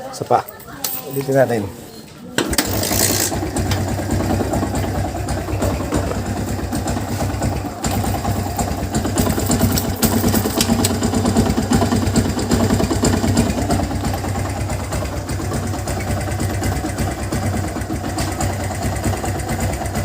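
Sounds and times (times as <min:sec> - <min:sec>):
motorcycle engine running: 0:02.5 - 0:20.0
rapid engine knocking: 0:02.5 - 0:20.0.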